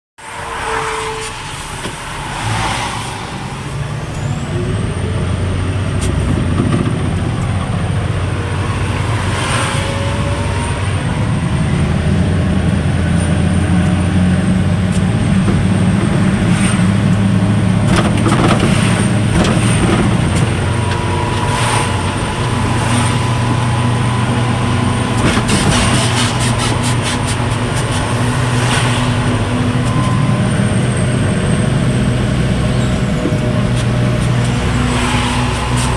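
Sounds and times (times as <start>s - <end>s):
diesel truck engine running: 1.4s - 35.9s.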